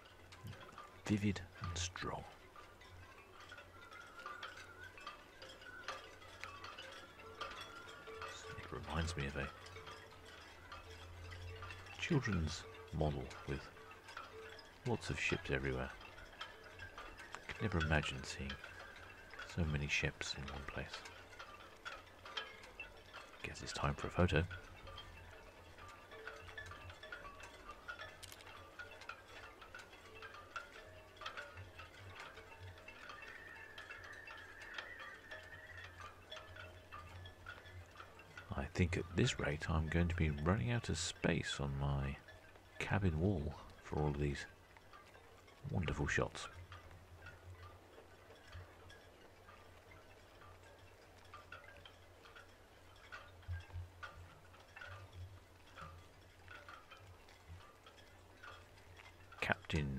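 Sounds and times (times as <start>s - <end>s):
faint chiming notes: 0.0s - 59.9s
light ticks: 0.0s - 59.9s.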